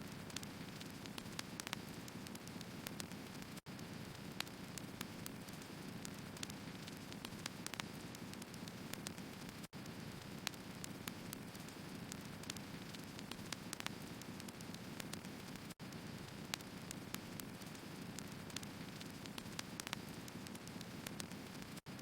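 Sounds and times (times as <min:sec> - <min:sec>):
firewood crackling and popping: 0:00.1 - 0:22.0.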